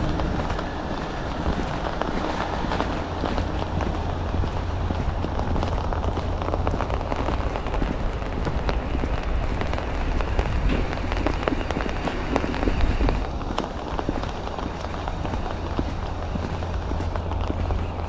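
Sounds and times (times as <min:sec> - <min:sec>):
footsteps on wet ground: 0:00.0 - 0:18.0
low rumble: 0:00.0 - 0:18.0
sleet and rain pattering: 0:00.0 - 0:18.0.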